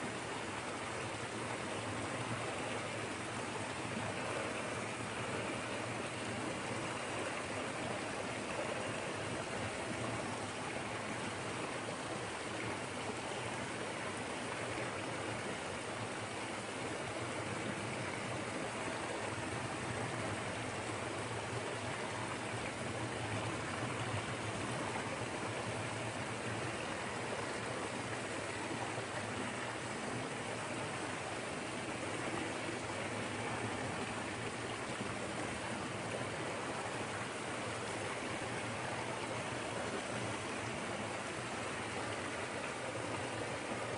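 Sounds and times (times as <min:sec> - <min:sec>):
small waterfall rushing: 0:00.0 - 0:43.9.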